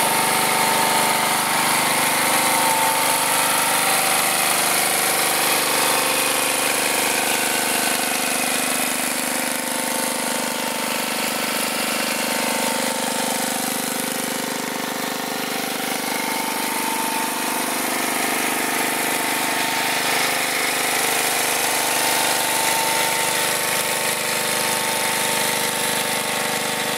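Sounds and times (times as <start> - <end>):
small engine running steadily: 0.0 - 26.9.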